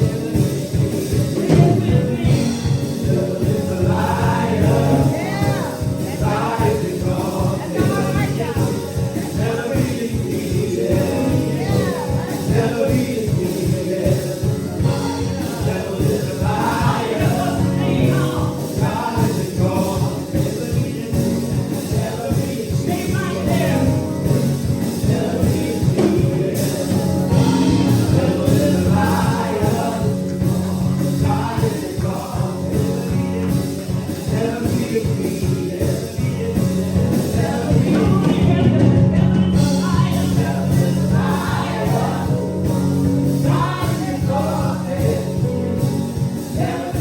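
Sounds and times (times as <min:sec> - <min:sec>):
band with steady bass: 0:00.0 - 0:47.0
choir singing gospel: 0:00.0 - 0:47.0.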